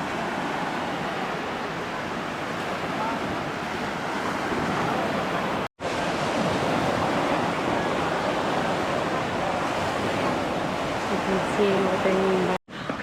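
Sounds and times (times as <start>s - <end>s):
waves breaking on sandy beach: 0.0s - 13.0s.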